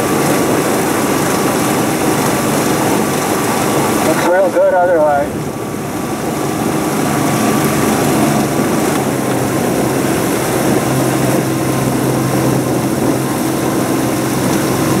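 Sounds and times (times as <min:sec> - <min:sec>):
outboard motor drone: 0:00.0 - 0:15.0.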